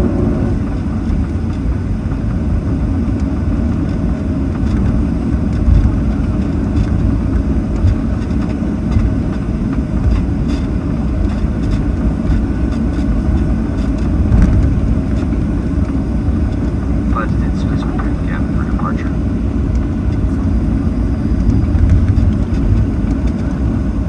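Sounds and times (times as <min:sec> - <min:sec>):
jet engines low rumble: 0:00.0 - 0:24.0.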